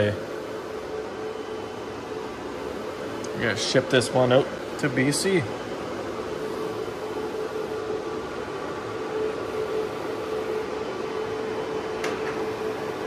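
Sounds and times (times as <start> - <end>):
printer whirring: 0.0 - 13.0.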